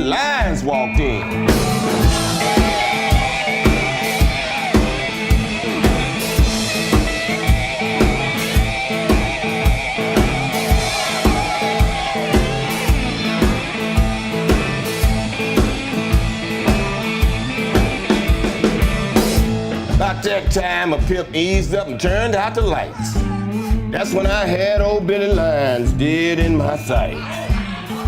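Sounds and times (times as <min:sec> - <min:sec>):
instrumental music with drum beat: 0:00.0 - 0:28.0.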